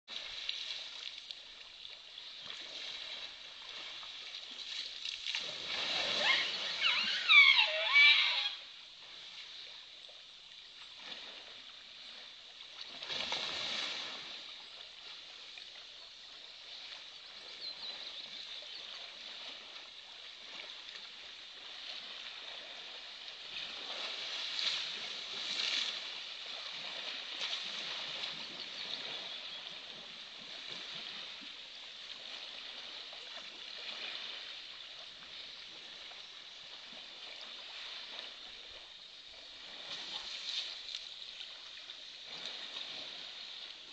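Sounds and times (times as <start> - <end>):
elephant splashing water: 0.1 - 8.6, 10.9 - 43.8.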